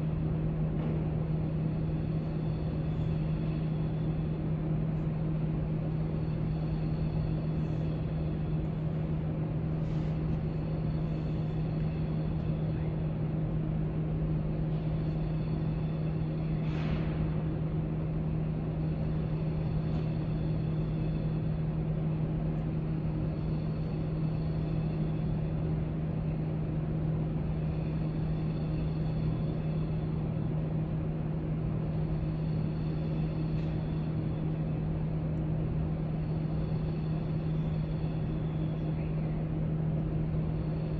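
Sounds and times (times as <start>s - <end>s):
ventilation hum: 0.0s - 40.9s.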